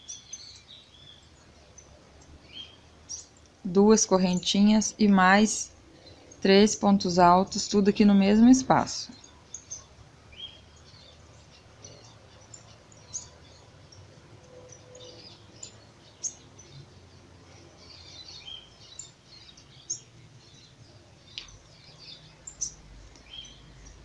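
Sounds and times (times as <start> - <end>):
faint bird chirps: 0.0 - 6.5, 8.9 - 24.0.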